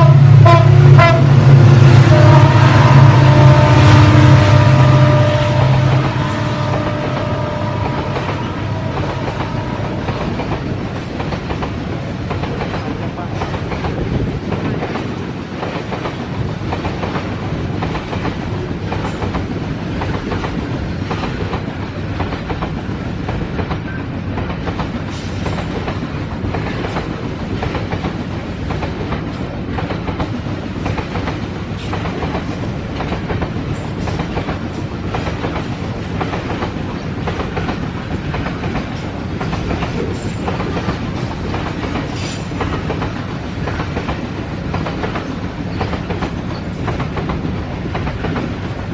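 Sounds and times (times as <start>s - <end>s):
train wagons rumbling past: 0.0s - 48.9s
wheels clicking over rail joints: 8.3s - 48.9s.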